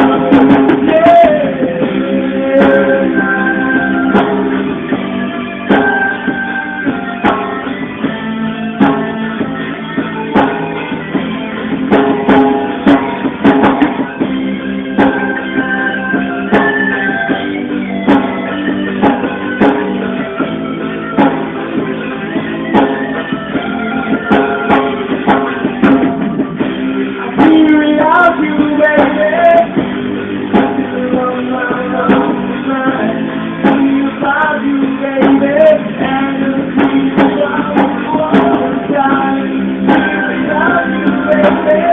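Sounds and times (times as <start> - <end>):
live band music: 0.0 - 41.9.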